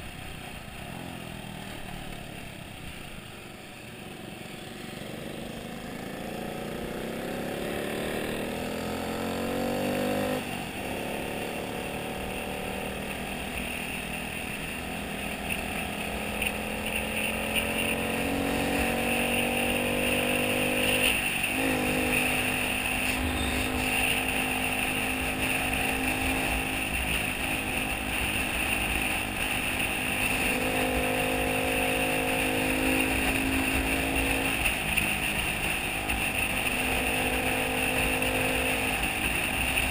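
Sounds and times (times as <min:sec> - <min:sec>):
motorcycle engine accelerating: 0:00.0 - 0:39.9
road and wind rush: 0:00.0 - 0:39.9.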